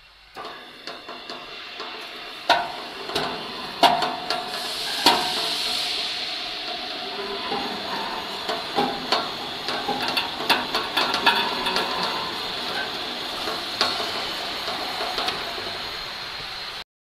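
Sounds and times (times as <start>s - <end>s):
machine running noise: 0.0s - 16.8s
metal knocks and clanks: 0.4s - 16.0s.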